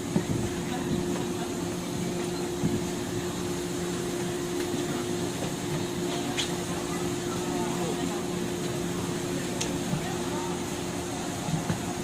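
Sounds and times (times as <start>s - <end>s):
train car hum and rumble: 0.0s - 12.0s.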